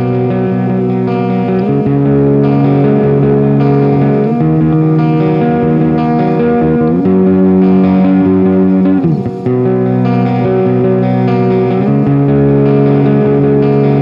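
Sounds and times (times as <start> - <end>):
clean electric guitar chords: 0.0 - 14.0.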